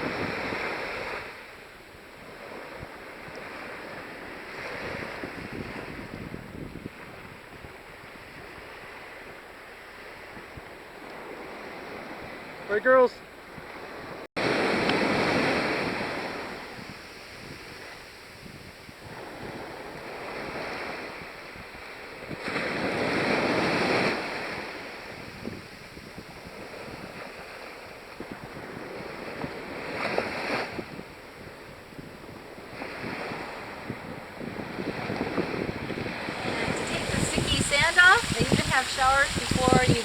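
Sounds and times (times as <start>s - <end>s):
wind buffeting microphone: 0.0s - 12.6s, 13.4s - 40.0s
small waves washing onto beach: 0.0s - 40.0s.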